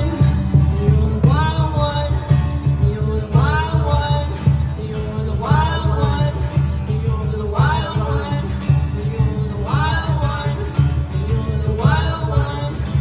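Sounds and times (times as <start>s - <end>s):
song with singing voice: 0.0s - 13.0s.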